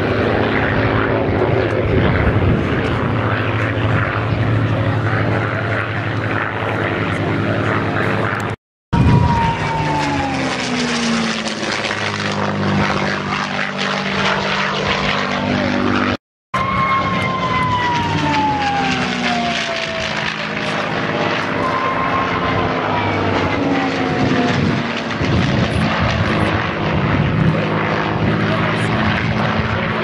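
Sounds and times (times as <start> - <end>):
propeller aircraft flying past: 0.0 - 30.0.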